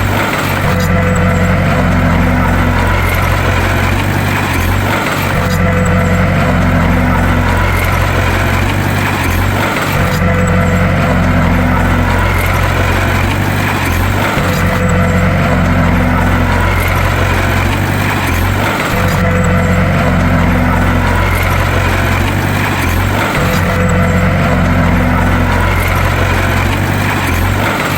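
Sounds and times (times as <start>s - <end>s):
bulldozer engine droning: 0.0s - 27.9s.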